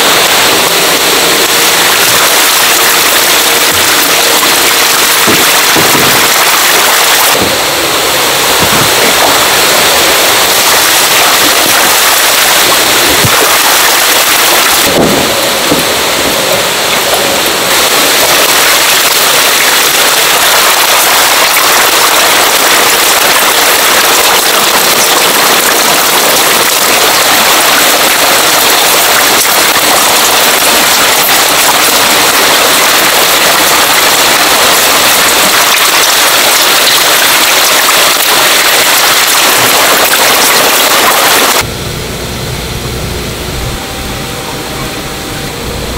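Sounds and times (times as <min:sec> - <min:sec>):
eels splashing in water: 0:00.0 - 0:07.7, 0:08.5 - 0:16.0, 0:16.8 - 0:41.7.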